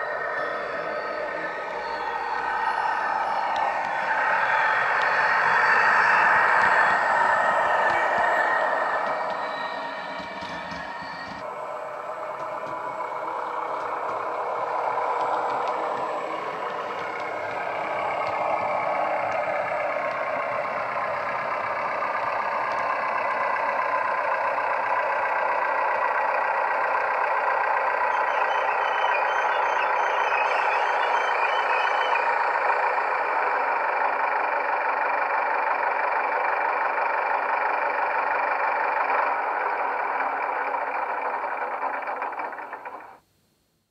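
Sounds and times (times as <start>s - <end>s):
model train diesel engine sound: 0.0s - 43.4s.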